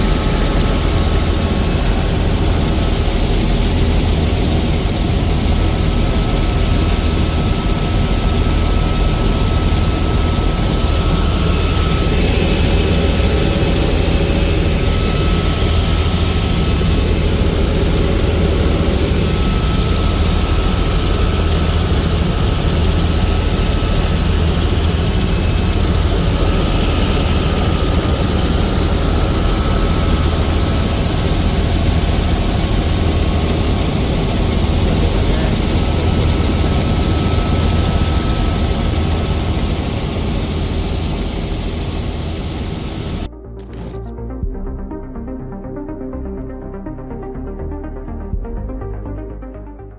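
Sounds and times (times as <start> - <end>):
helicopter flying: 0.0 - 49.9.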